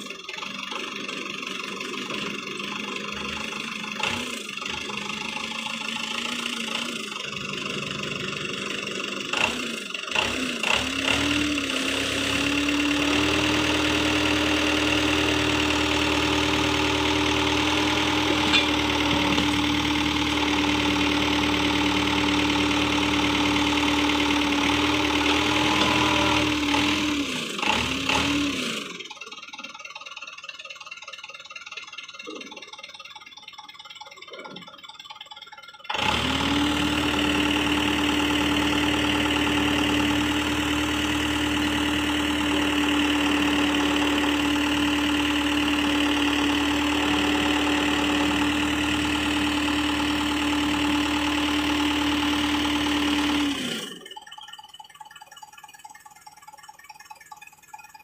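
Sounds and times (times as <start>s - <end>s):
backhoe engine revving: 0.0s - 29.8s, 35.9s - 54.2s.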